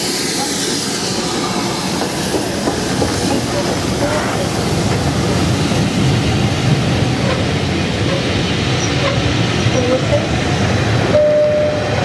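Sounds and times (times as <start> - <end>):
train passing with loud rumble: 0.0 - 12.0.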